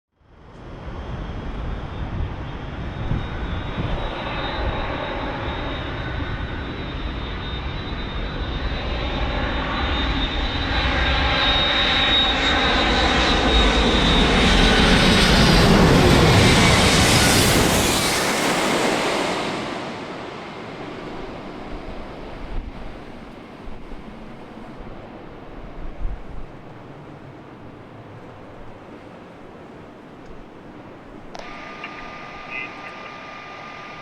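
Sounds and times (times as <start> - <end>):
jet engines rumbling and whining: 0.2 - 34.0.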